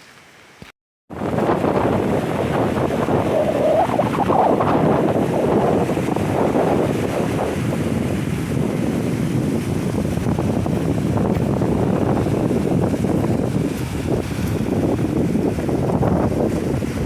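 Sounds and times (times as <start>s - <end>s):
wind buffeting microphone: 1.1s - 17.0s.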